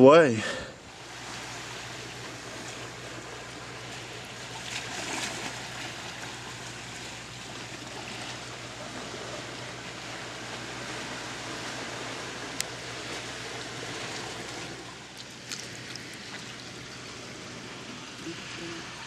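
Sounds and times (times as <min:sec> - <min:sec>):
low steady hum: 0:00.0 - 0:19.0
water lapping against pilings: 0:00.0 - 0:19.0.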